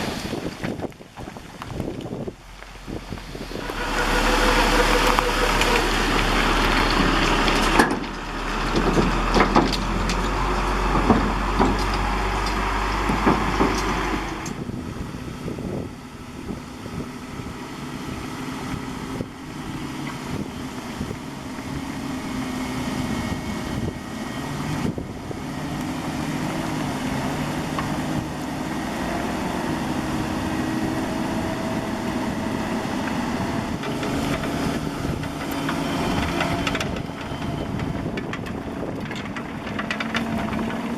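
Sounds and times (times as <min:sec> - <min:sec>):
diesel engine of digging equipment: 0:00.0 - 0:40.9.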